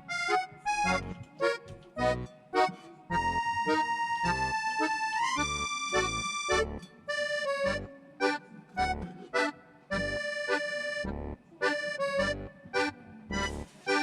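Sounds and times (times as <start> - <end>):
bouncy tune over low beat: 0.0 - 13.7.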